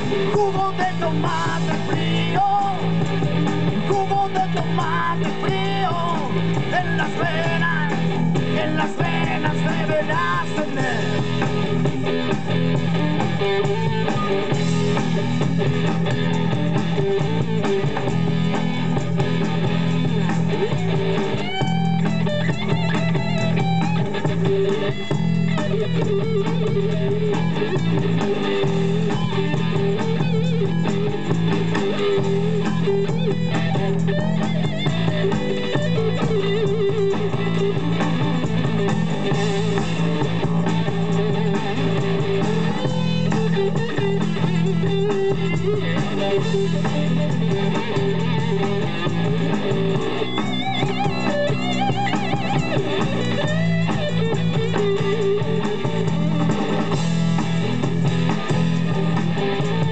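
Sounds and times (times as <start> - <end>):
bass line: 0.0 - 59.9
guitar: 0.0 - 59.9
live band playing: 0.0 - 59.9.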